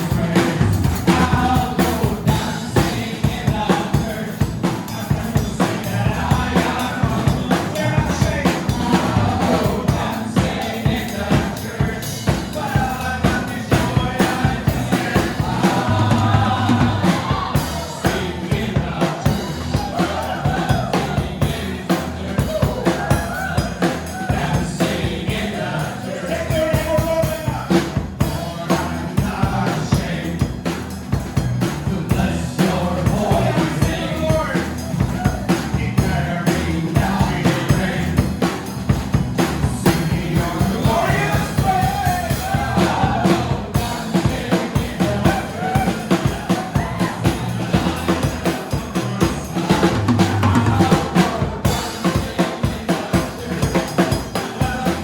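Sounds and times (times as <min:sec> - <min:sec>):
band playing: 0:00.0 - 0:55.0
drums beating: 0:00.0 - 0:55.0
voices singing together: 0:00.0 - 0:55.0.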